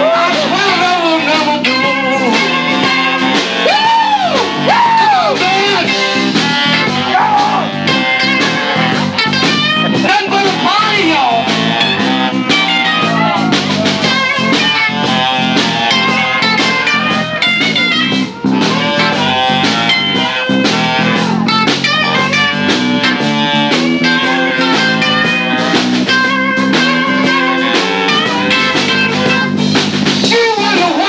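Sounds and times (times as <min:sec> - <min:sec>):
lead guitar: 0:00.0 - 0:31.0
live blues rock band: 0:00.0 - 0:31.0.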